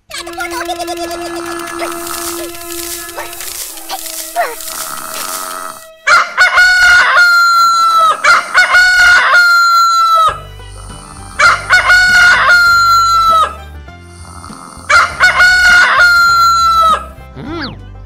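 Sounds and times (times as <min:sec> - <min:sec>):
soft background music: 0:00.1 - 0:18.0
rooster crowing: 0:01.1 - 0:13.6, 0:14.9 - 0:17.1.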